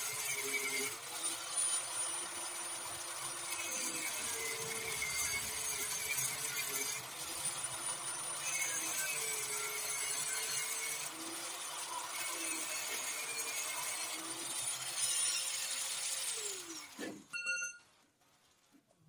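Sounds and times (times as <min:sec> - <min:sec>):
angle grinder cutting steel pipe: 0:00.0 - 0:17.3.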